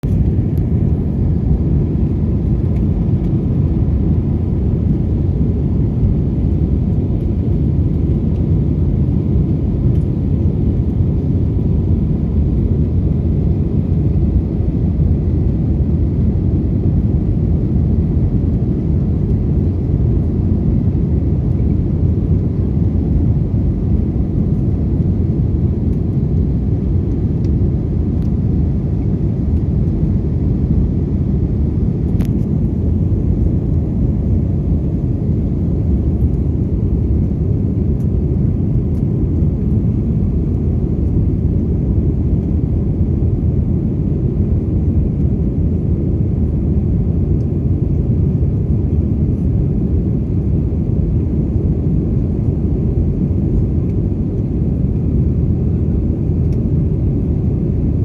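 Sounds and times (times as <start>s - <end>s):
low rumbling noise: 0.0s - 58.0s.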